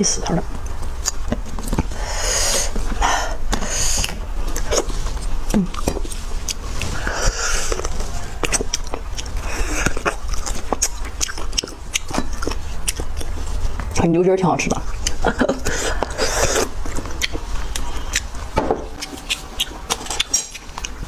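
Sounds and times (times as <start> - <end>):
person chewing wetly: 0.5 - 14.1, 14.7 - 21.0.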